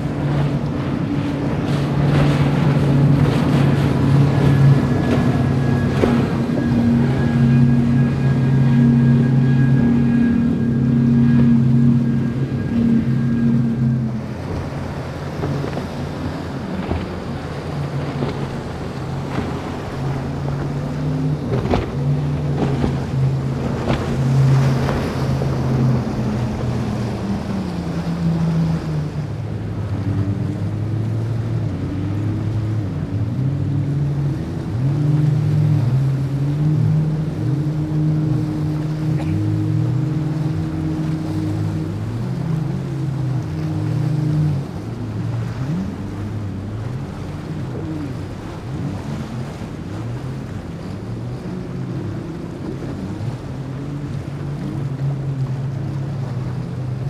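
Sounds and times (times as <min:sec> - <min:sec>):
hiss of spray and waves: 0:00.0 - 0:57.0
outboard motors droning: 0:00.0 - 0:57.0.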